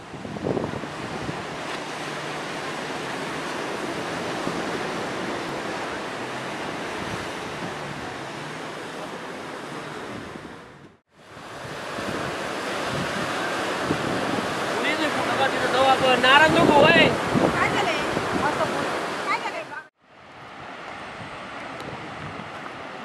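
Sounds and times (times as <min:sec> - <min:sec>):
wind buffeting microphone: 0:00.0 - 0:08.4, 0:09.9 - 0:23.0
surf breaking on shore: 0:00.0 - 0:23.0.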